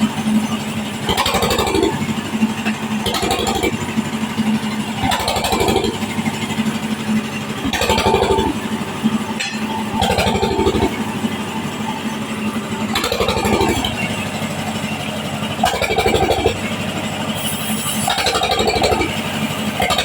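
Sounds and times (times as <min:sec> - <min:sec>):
engine-driven wood saw cutting: 0:00.0 - 0:20.0.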